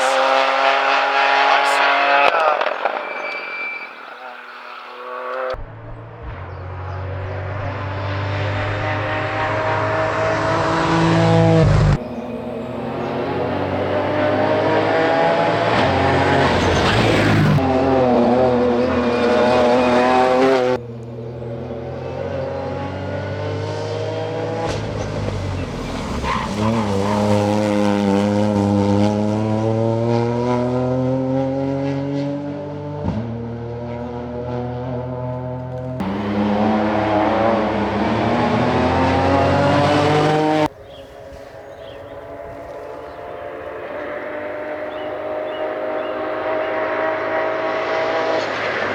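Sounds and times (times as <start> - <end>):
rally car engine accelerating: 0.0 - 48.9.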